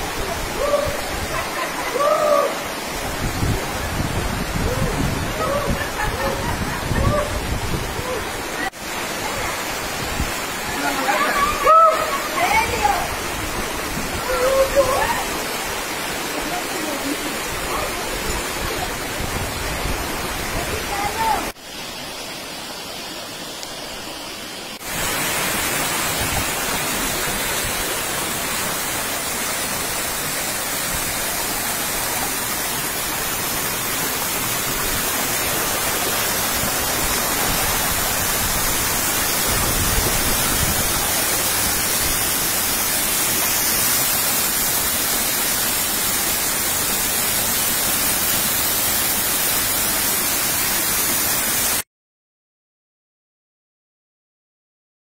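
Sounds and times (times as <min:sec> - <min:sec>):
waterfall roaring: 0:00.0 - 0:51.8.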